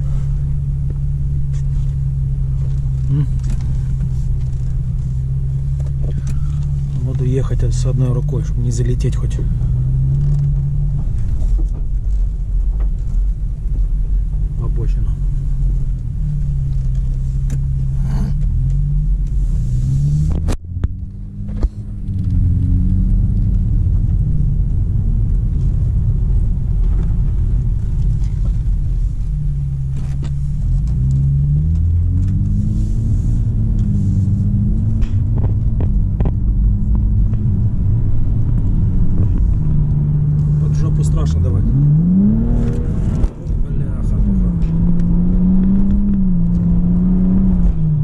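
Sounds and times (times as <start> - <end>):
car engine drone accelerating: 0.0 - 48.0.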